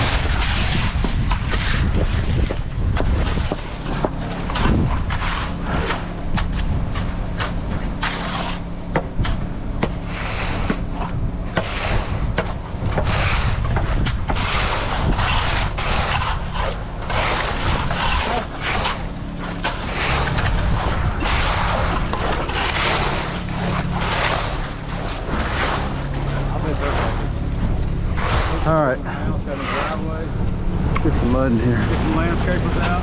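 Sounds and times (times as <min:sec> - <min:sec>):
large engine running: 0:00.0 - 0:33.0
rushing scraping noise: 0:00.0 - 0:33.0
wind on microphone: 0:00.0 - 0:33.0.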